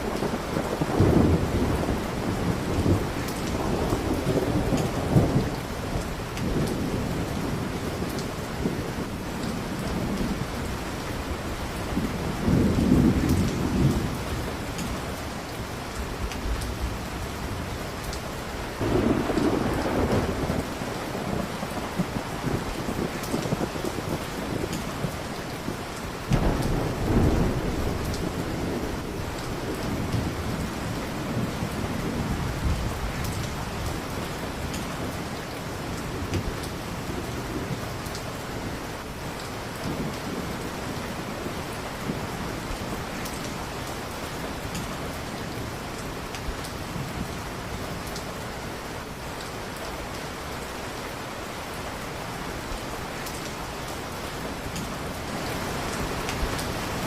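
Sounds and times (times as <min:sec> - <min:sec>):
thunder rumbling: 0:00.0 - 0:18.0, 0:18.7 - 0:49.2
heavy rain: 0:00.0 - 0:57.0.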